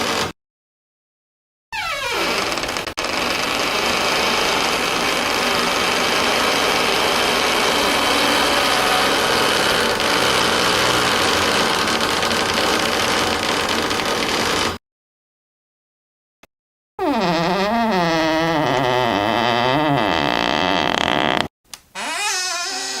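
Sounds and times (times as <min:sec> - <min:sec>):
door hinges creaking: 0:01.8 - 0:14.8, 0:17.0 - 0:23.0.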